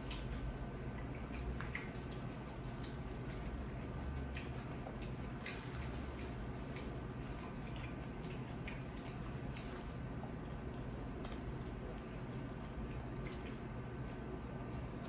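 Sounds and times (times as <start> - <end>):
close chewing mouth sounds: 0.0 - 15.0
steady low hum: 0.0 - 15.0.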